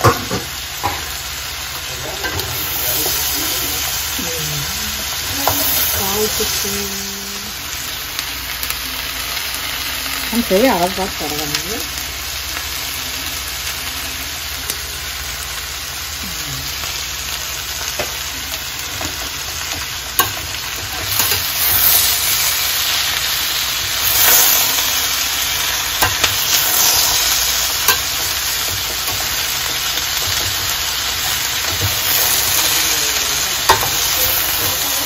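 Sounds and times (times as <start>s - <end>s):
cabbage sizzling in a pan: 0.0s - 35.0s.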